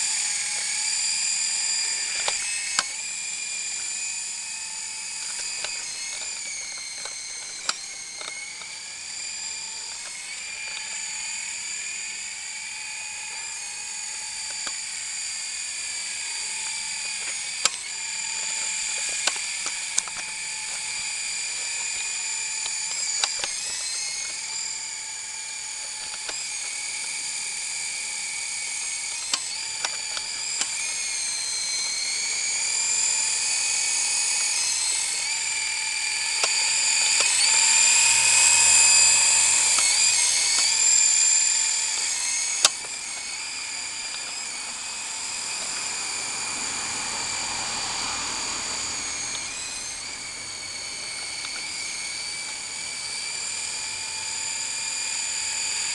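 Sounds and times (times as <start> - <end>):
sharp clicks: 0.0 - 47.2, 48.9 - 53.8
toy helicopter rotors whining: 0.0 - 55.9.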